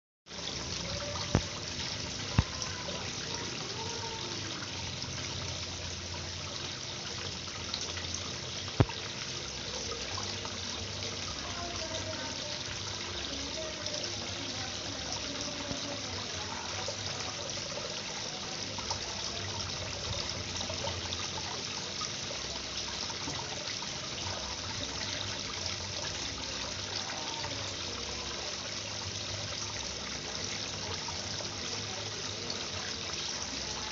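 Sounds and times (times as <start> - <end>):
water trickling into pond: 0.3 - 33.9.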